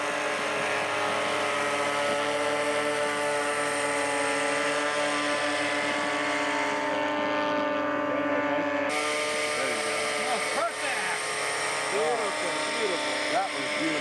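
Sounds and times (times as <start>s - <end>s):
model airplane engines droning: 0.0s - 14.0s.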